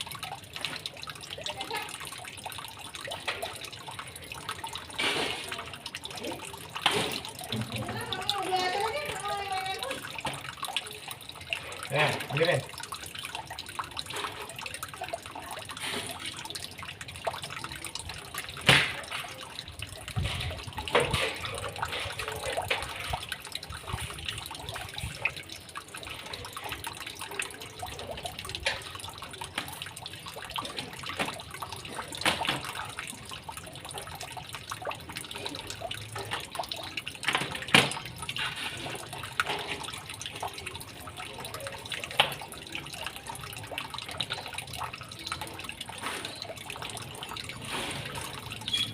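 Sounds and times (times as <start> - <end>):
water splashing and trickling: 0.0 - 48.9.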